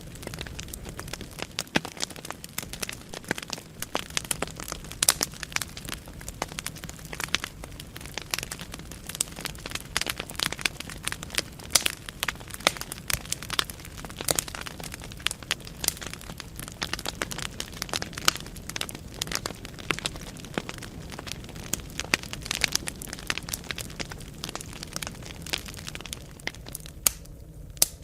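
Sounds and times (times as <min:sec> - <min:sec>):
burning wood crackling: 0:00.0 - 0:28.0
low rumble of flames: 0:00.0 - 0:28.0.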